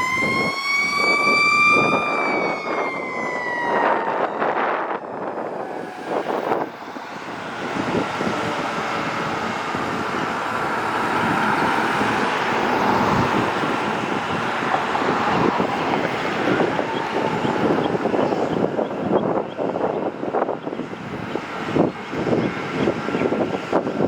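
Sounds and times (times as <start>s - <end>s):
road traffic passing: 0.0s - 24.0s
wind on microphone: 0.0s - 24.0s.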